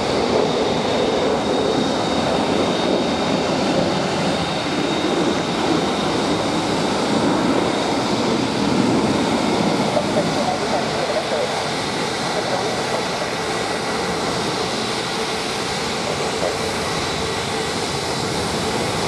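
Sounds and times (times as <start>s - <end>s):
jet engines taxiing: 0.0s - 19.0s.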